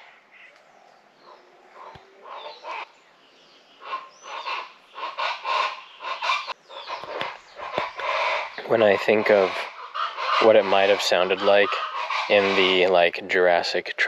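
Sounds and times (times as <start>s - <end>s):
wild chickens calling: 0.0s - 13.1s.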